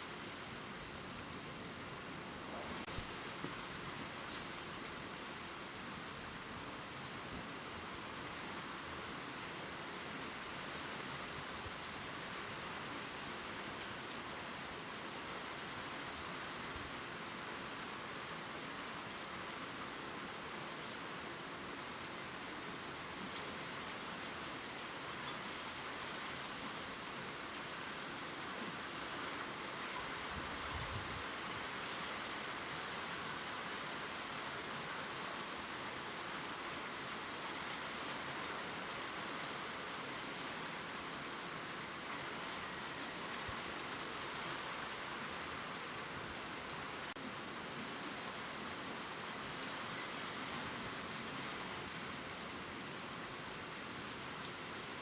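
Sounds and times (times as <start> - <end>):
gentle rain on leaves: 0.0 - 55.0.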